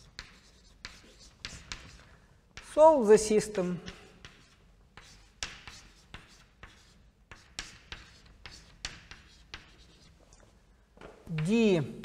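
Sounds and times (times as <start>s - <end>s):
chalk tapping and scratching on chalkboard: 0.0s - 2.8s, 3.6s - 10.6s, 11.2s - 11.8s.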